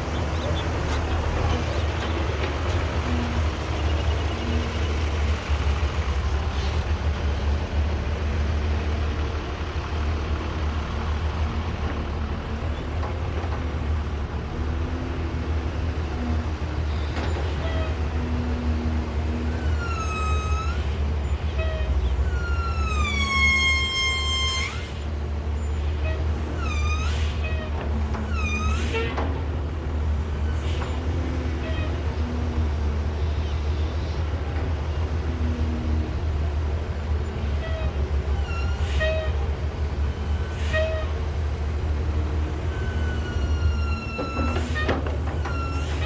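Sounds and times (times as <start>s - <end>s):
excavator diesel engine rumbling: 0.0s - 46.0s.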